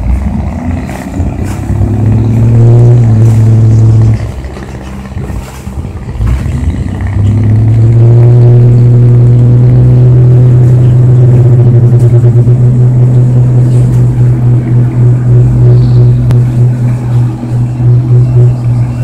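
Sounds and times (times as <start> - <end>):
boat diesel engine revving: 0.0 - 19.0.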